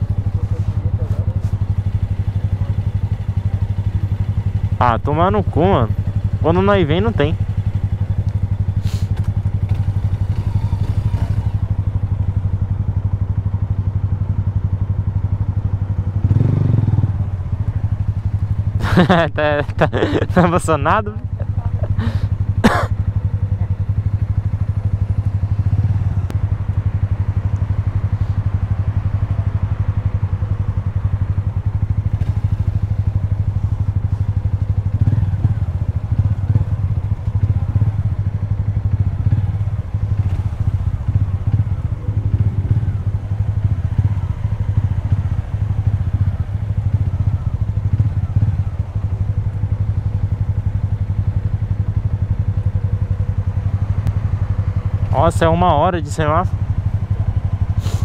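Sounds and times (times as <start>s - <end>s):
motorcycle engine idling: 0.0s - 58.0s
second motorcycle idling: 0.0s - 58.0s.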